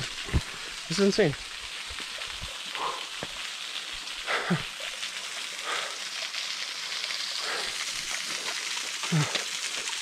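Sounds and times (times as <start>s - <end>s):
small waterfall: 0.0s - 10.0s
water flowing over rock: 0.0s - 10.0s.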